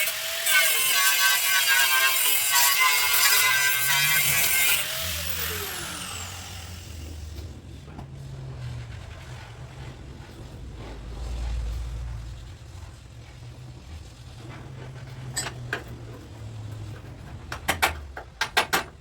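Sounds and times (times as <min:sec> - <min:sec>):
low mechanical hum: 0:03.5 - 0:19.0.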